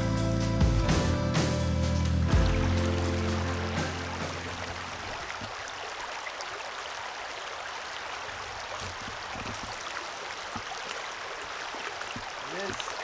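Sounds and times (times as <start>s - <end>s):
water flowing over rocks: 2.3s - 13.0s.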